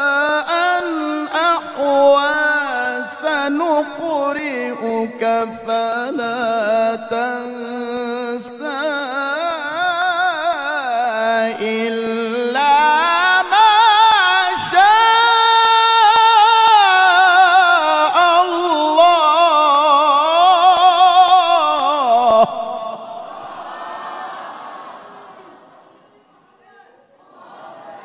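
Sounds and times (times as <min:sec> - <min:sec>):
man chanting recitation: 0:00.0 - 0:23.4.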